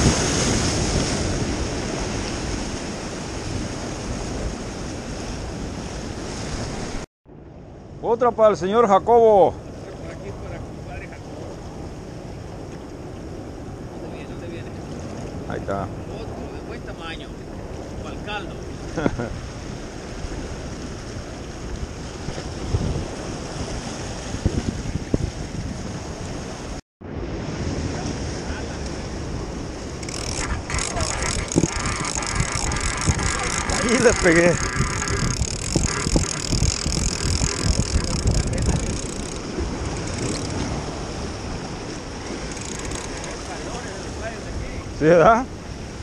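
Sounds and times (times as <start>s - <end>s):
surf washing against rocks: 0.0s - 7.1s, 8.4s - 46.0s
wind rumble on microphone: 0.0s - 8.0s, 9.6s - 46.0s.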